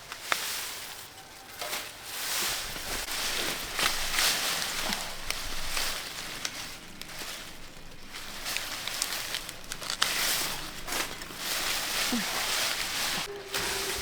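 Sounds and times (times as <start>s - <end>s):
leaves and stems rustling: 0.0s - 14.0s.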